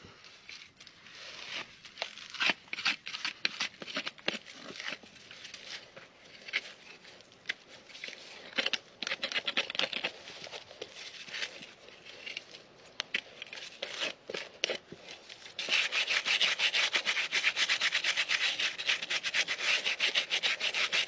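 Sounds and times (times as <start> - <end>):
gloved hands scraping hoof: 0.5 - 21.0.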